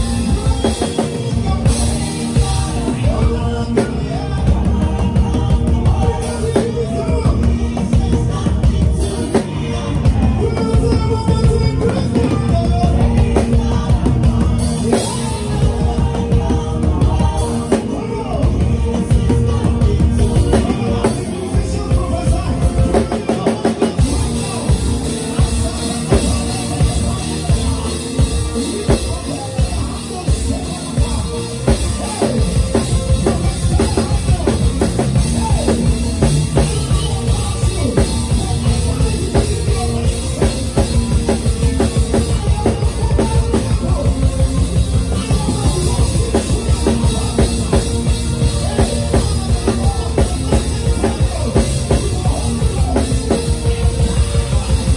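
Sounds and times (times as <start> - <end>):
drum kit fast beat: 0.0 - 54.9
live band playing upbeat groove: 0.0 - 54.9.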